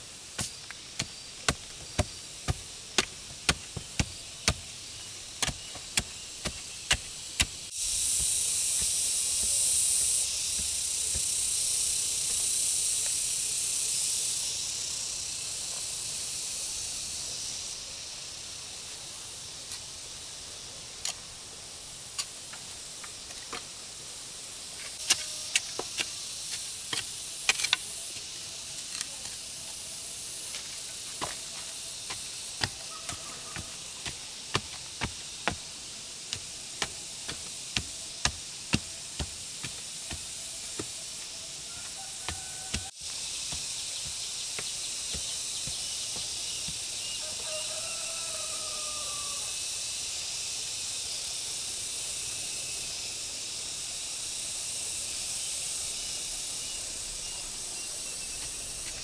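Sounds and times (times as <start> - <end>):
loud high hiss: 0.0 - 20.6, 29.7 - 58.8.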